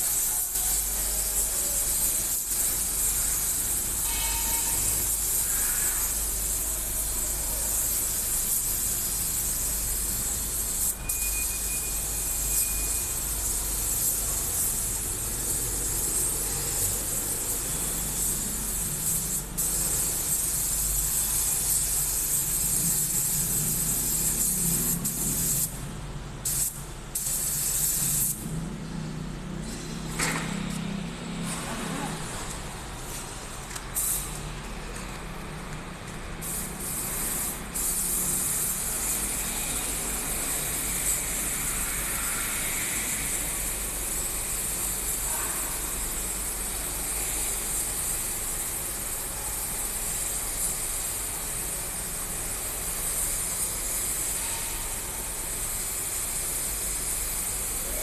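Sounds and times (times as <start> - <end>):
paint spray gun hissing: 0.0 - 25.8, 26.4 - 28.4, 34.0 - 34.4, 36.4 - 58.0.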